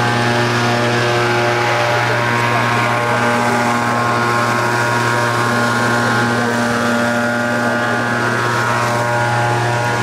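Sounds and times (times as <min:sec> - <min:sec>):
motor droning: 0:00.0 - 0:10.0.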